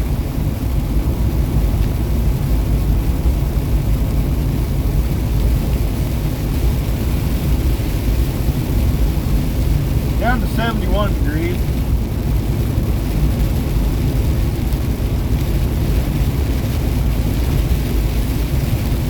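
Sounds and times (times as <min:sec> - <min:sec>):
truck engine and tyres rumbling: 0:00.1 - 0:19.0.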